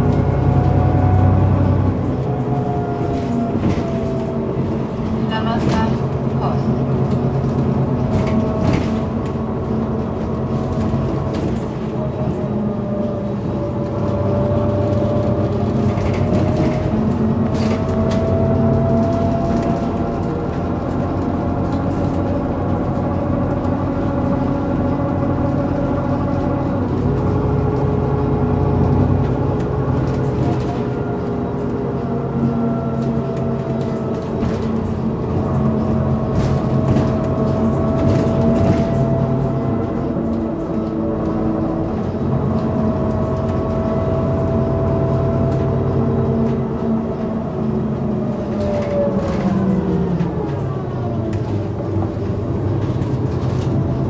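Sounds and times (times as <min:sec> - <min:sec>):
bus diesel engine whining: 0:00.0 - 0:54.0.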